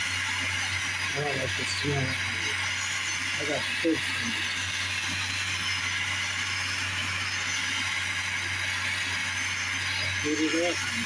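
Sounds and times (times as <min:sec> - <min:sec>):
fan humming: 0:00.0 - 0:11.0
gas torch hissing: 0:00.0 - 0:11.0.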